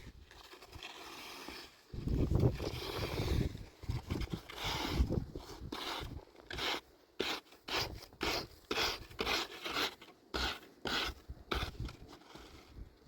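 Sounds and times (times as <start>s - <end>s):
scraping on rough surface: 0.0s - 13.0s.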